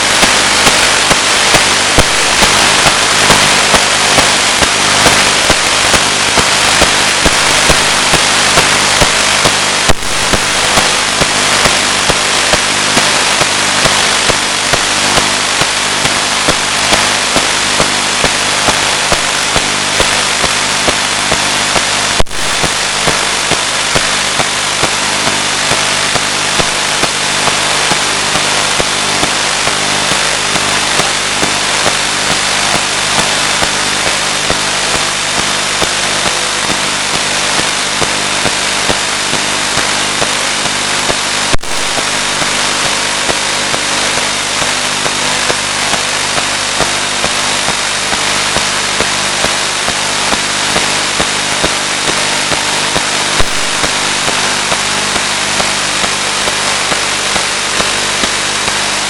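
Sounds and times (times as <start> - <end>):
loud static hiss: 0.0 - 59.0.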